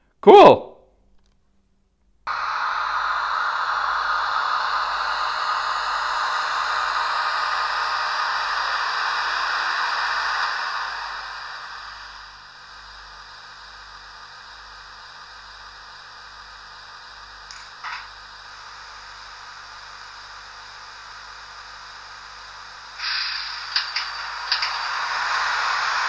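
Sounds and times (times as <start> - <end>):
model locomotive hiss: 2.3 - 26.0.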